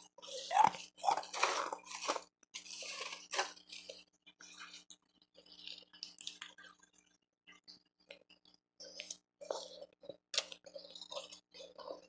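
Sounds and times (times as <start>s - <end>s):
ice being chewed: 0.0s - 12.0s.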